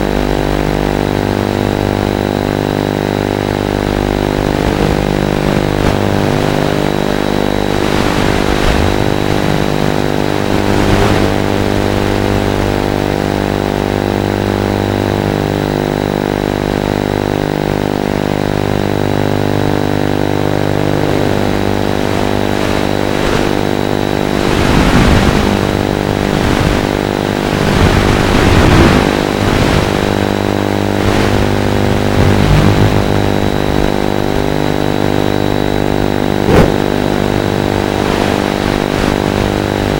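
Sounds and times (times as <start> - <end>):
quadcopter buzzing: 0.2 - 16.5, 20.3 - 36.9.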